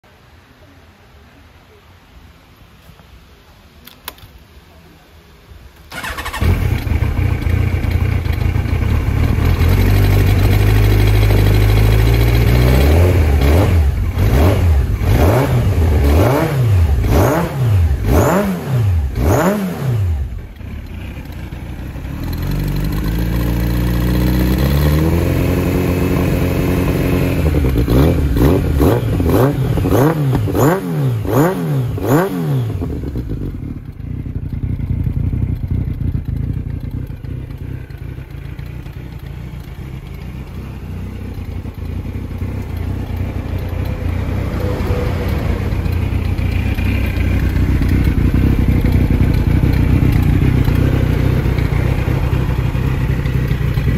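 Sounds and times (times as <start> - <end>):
motorcycle engine idling and revving: 5.9 - 53.9.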